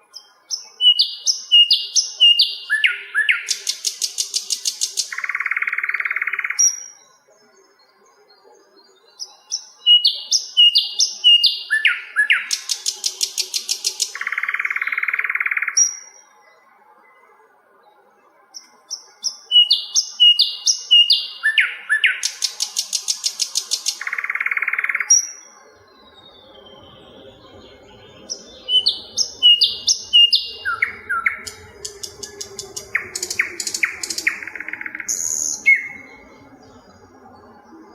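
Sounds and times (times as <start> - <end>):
flycatcher singing: 0.0 - 37.9.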